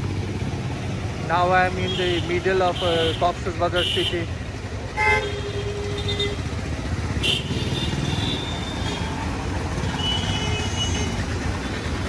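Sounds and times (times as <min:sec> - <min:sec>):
city street traffic: 0:00.0 - 0:12.0
small engine rumbling: 0:00.0 - 0:12.0.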